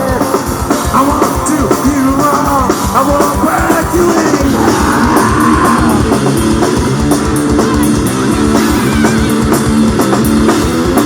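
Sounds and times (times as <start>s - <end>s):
drum kit beat: 0.0s - 11.0s
electric guitar riff: 0.0s - 11.0s.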